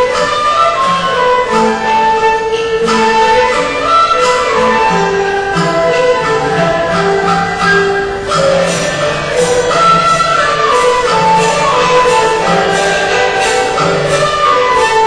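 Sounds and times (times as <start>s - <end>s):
slow instrumental music: 0.0s - 15.0s.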